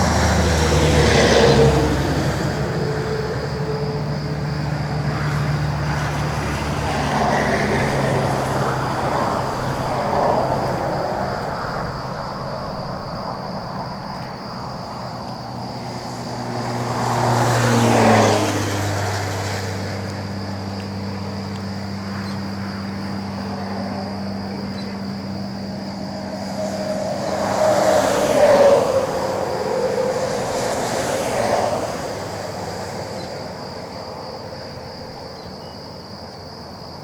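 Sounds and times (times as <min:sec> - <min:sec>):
vehicles passing on highway: 0:00.0 - 0:37.0.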